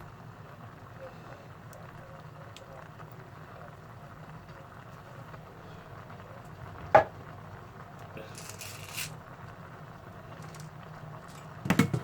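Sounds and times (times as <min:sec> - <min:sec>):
pot simmering with bubbling hiss: 0:00.0 - 0:12.0.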